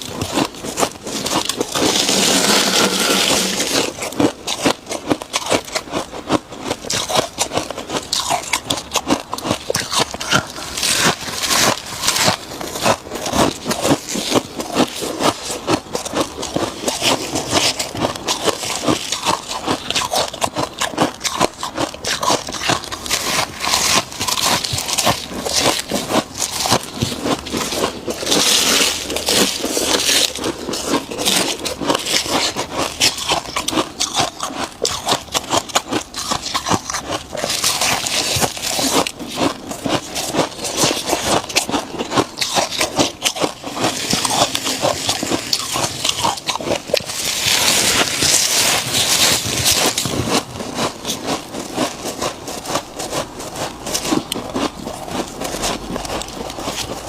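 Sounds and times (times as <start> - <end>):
frost being scraped and chewed: 0.0 - 57.0.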